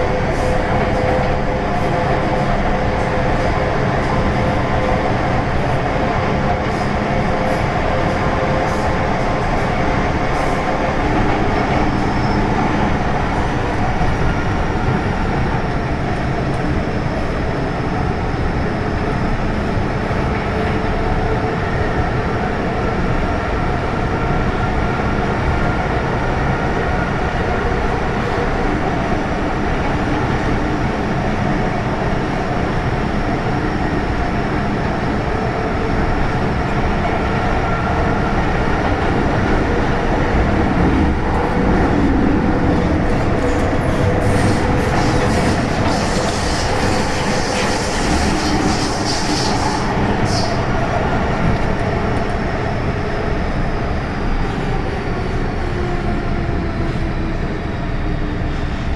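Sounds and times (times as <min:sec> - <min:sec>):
electric train running on track: 0:00.0 - 0:58.9.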